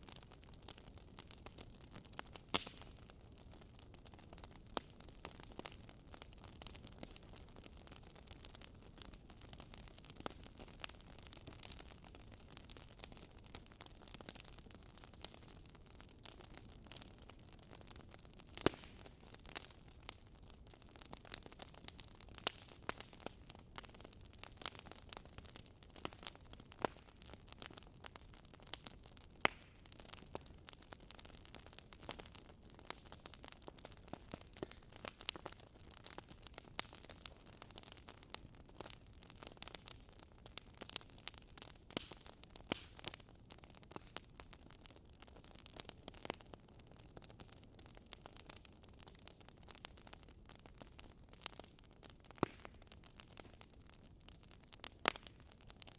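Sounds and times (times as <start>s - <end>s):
soft steady hiss: 0.0s - 55.9s
wood fire crackling: 0.0s - 55.9s.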